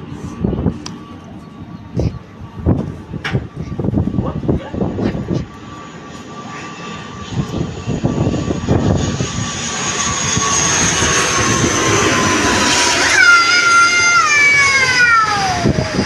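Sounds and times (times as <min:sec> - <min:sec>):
airplane engine whine: 0:00.0 - 0:16.0.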